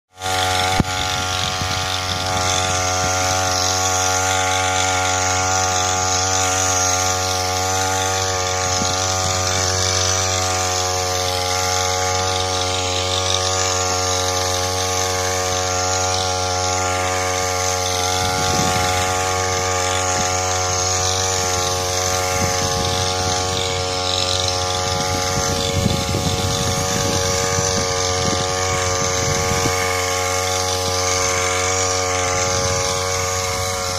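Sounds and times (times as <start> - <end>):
small sprayer engine running: 0.1 - 33.9.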